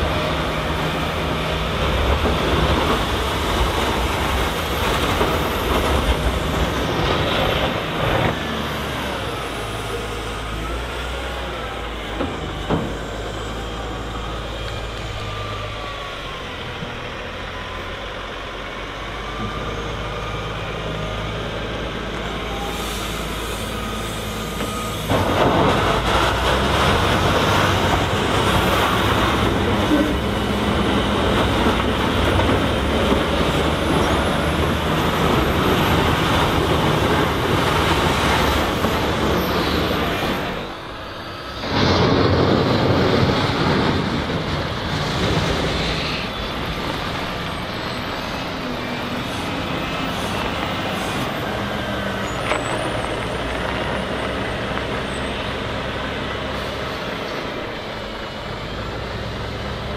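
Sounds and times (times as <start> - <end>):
wheel loader diesel engine revving: 0.0 - 59.9.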